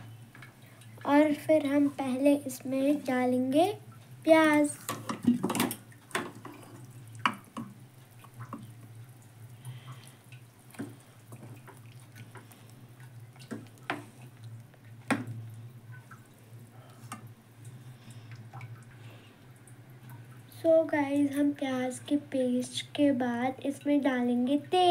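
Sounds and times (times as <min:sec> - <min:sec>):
gravy bubbling in a pot: 0:00.0 - 0:24.9
steady low hum: 0:00.0 - 0:24.9.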